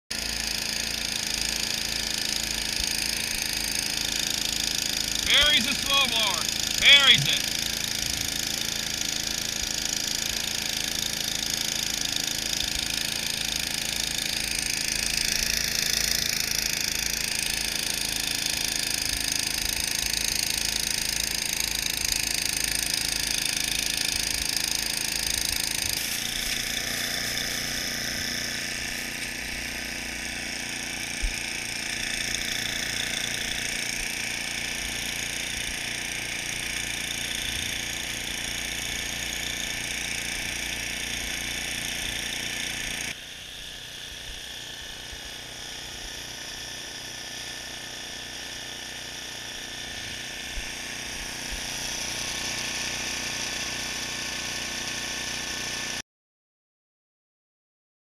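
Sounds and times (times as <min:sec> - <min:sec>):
snowblower engine running: 0:00.1 - 0:56.0.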